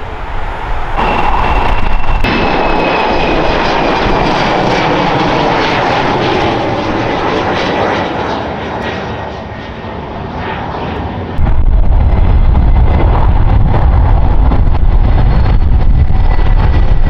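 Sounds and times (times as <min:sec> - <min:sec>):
jet engines passing overhead: 0:00.0 - 0:17.0.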